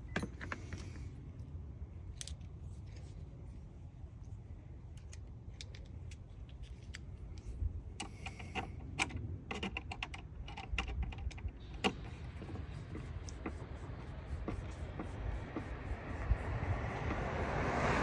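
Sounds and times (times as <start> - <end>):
steady low rumble: 0.0 - 9.5, 10.3 - 18.0.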